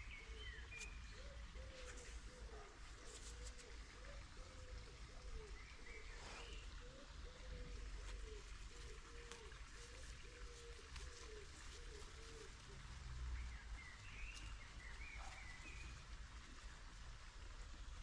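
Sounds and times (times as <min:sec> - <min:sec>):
leaves rustling: 0:00.0 - 0:04.4, 0:05.4 - 0:18.0
songbird chirps: 0:00.0 - 0:18.0.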